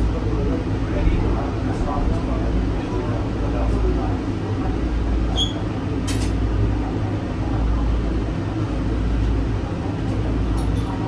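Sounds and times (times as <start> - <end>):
train cabin rumble and hum: 0.0 - 11.0.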